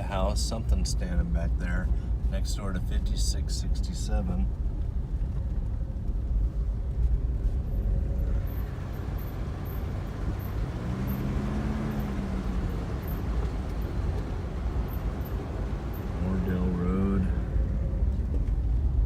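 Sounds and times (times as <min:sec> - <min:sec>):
road and engine rumble: 0:00.0 - 0:19.0.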